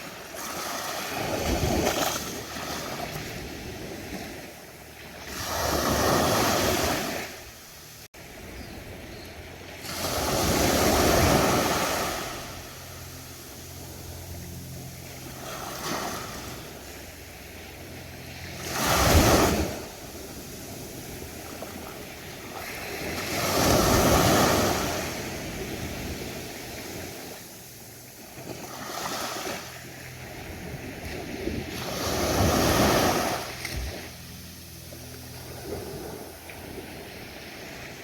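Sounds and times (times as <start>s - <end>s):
ocean waves breaking on beach: 0.0s - 38.0s.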